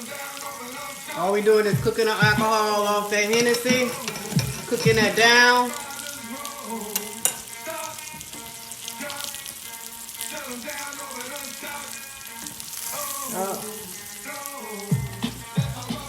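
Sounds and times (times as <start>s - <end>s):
liquid sizzling in a pan: 0.0s - 16.0s
music playing: 0.0s - 16.0s.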